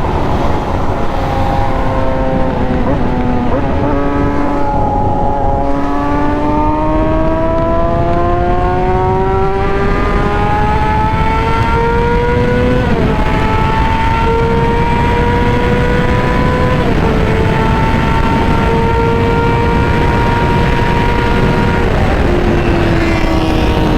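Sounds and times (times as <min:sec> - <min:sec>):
motorcycle engine accelerating: 0:00.0 - 0:23.9
steady rushing noise: 0:00.0 - 0:23.9.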